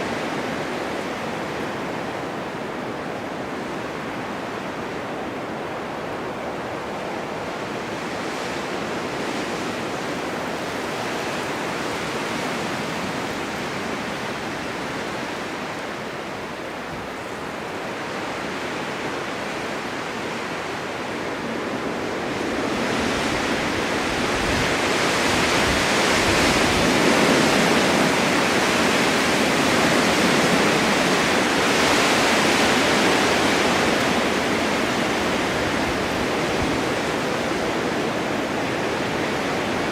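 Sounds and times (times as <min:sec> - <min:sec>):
blizzard wind rushing: 0:00.0 - 0:39.9.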